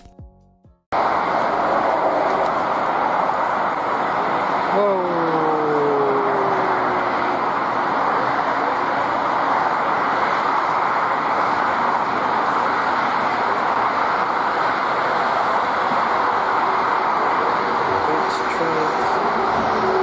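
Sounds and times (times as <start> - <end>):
jet engines and airflow rushing: 0.9 - 20.0.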